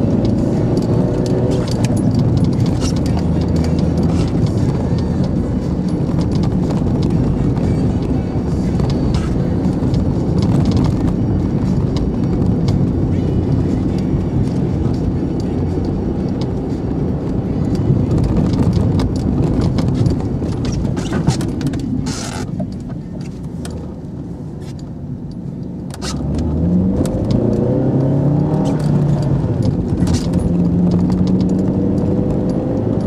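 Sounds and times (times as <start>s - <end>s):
tyre noise: 0.0s - 16.5s, 17.3s - 24.0s, 25.9s - 33.0s
car engine accelerating: 0.0s - 33.0s.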